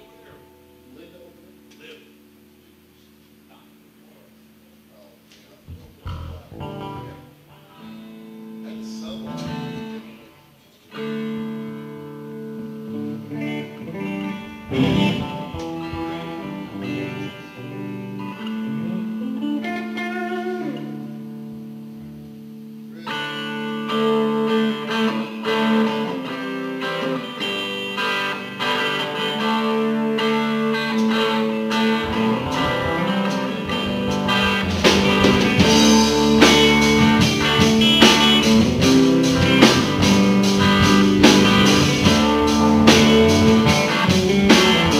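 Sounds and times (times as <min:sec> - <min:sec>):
live blues-rock band with electric guitars: 0:05.8 - 0:44.9.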